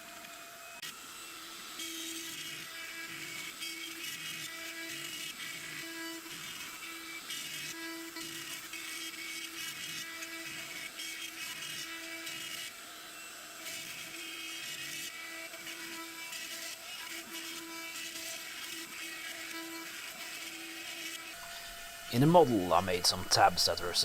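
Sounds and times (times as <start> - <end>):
router spindle cutting wood: 0.0 - 24.0.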